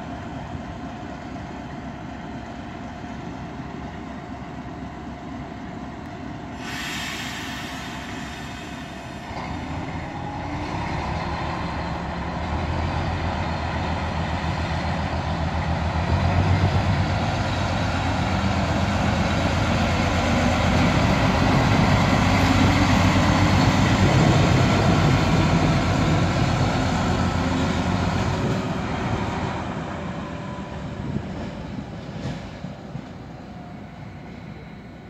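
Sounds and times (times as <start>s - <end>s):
diesel locomotive engine passing: 0.0s - 35.0s.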